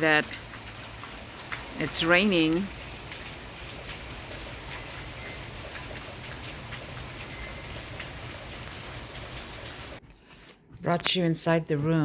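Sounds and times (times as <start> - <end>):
raindrop taps: 0.0 - 10.0
steady rain falling: 0.0 - 10.0.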